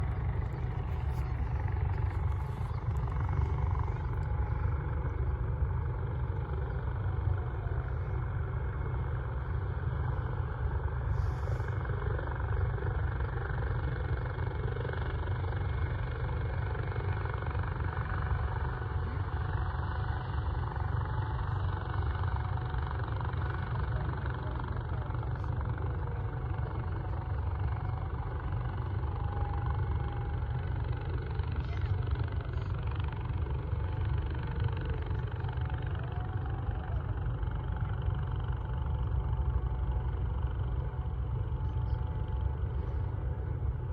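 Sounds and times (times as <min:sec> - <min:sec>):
tug engine rumbling: 0:00.0 - 0:43.9.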